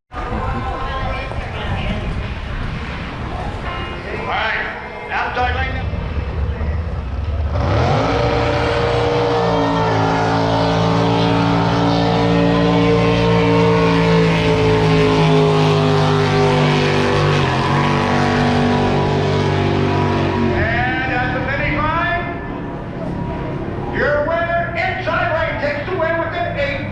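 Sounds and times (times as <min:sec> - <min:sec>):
boat engine at full throttle: 0:00.1 - 0:26.9.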